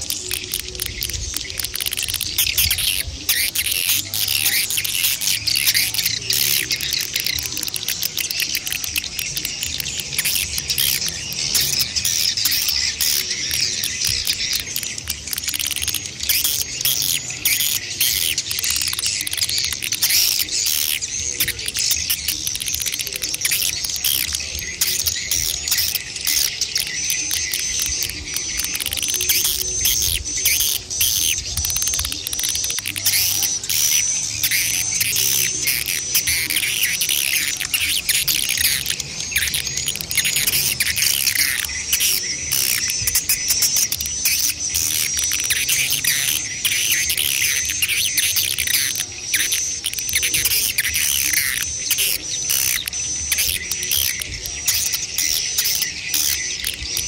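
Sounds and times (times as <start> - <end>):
evenly repeated short chirps: 0.0 - 57.0
swiftlets twittering chorus: 0.0 - 57.0.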